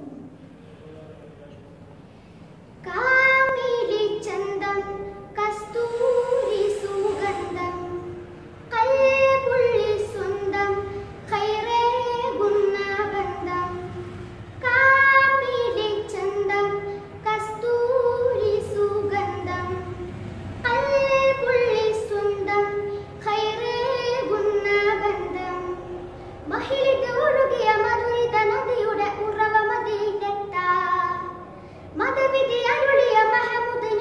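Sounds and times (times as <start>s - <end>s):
boy singing devotional song: 2.5s - 34.0s.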